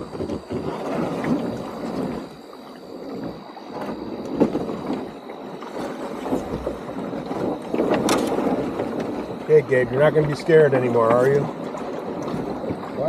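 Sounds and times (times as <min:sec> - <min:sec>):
canoe paddling: 0:00.0 - 0:13.0
river water gurgling: 0:00.0 - 0:13.0.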